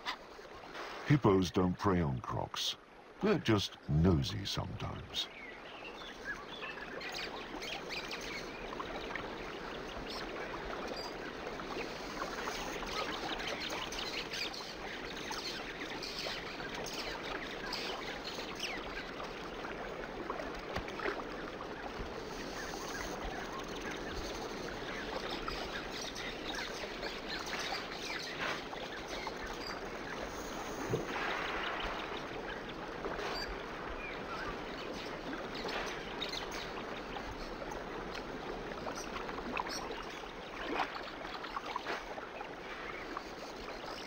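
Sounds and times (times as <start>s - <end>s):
shallow moving water: 0.0s - 44.0s.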